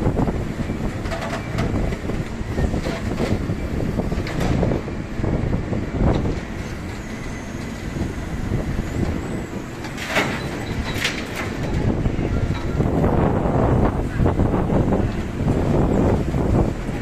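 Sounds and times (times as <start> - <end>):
city street traffic rumbling: 0.0 - 17.0
heavy vehicles passing: 0.0 - 17.0.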